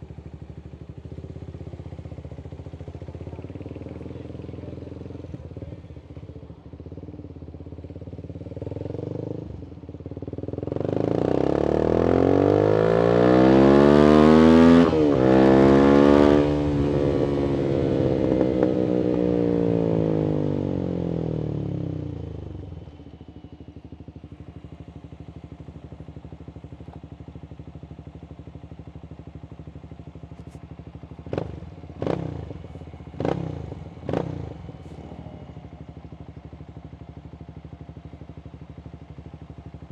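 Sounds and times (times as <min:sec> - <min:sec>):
motorcycle engine revving: 0:07.2 - 0:39.9.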